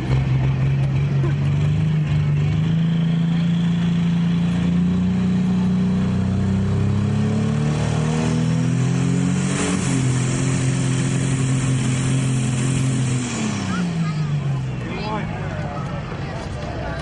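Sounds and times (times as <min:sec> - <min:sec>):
diesel engine running hard: 0:00.0 - 0:17.0.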